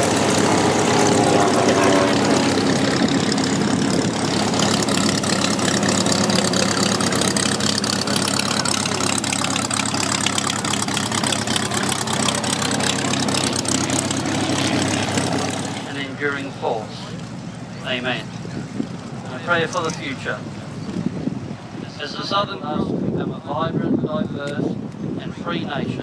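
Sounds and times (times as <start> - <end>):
aircraft engine droning: 0.0 - 23.0.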